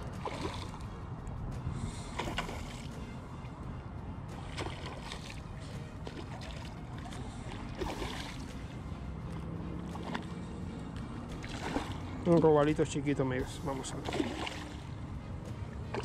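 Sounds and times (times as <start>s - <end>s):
water lapping: 0.0s - 16.0s.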